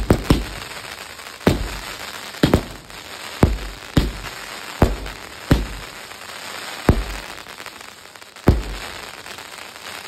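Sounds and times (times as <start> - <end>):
crackling hiss of burning stars: 0.0 - 10.0
firework bangs: 0.0 - 10.0.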